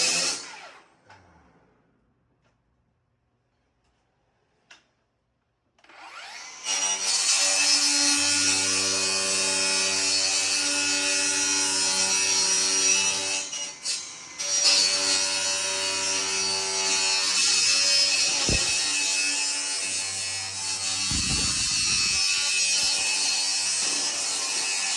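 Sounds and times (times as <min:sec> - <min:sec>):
power tool cutting sheet metal: 0:00.0 - 0:00.9, 0:05.8 - 0:24.9.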